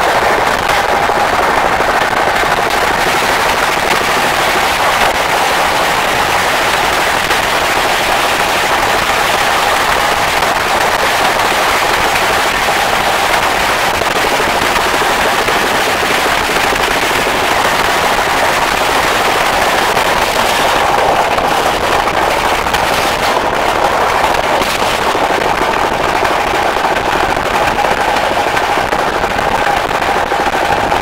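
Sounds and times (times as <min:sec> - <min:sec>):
train rattling and clattering: 0:00.0 - 0:31.0.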